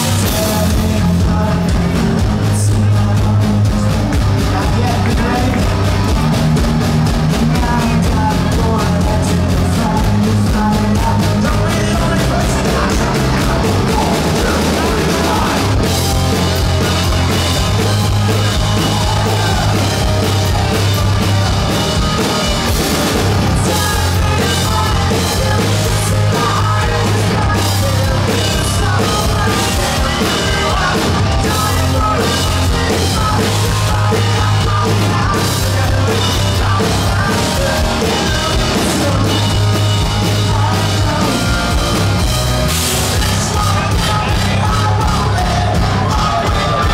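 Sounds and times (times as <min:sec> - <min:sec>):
person singing: 0:00.0 - 0:06.6, 0:07.2 - 0:42.3, 0:42.9 - 0:46.9
rock band playing live: 0:00.0 - 0:46.9.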